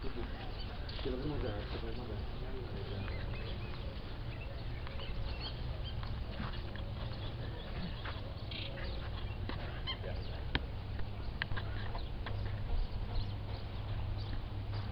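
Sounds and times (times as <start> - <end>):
birds chirping: 0.0 - 14.9
steady low rumble: 0.0 - 14.9.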